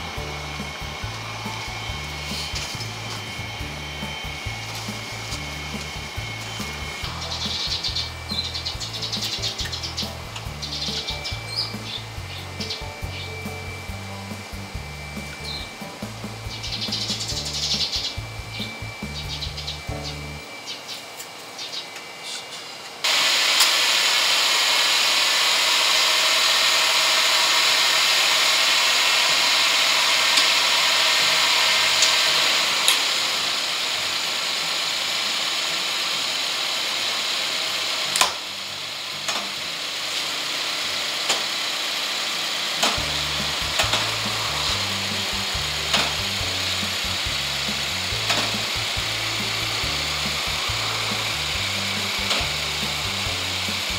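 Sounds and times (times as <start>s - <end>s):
car engine running: 0.0s - 21.0s, 23.0s - 53.9s.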